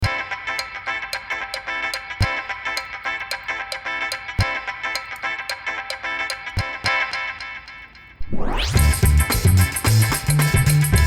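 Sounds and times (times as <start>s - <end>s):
light bouncy music with beat: 0.0s - 7.5s, 8.7s - 11.0s.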